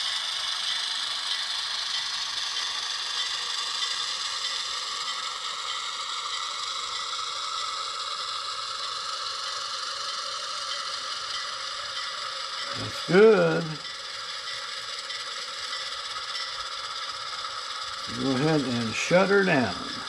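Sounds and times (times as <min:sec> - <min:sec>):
model locomotive running on track: 0:00.0 - 0:20.0.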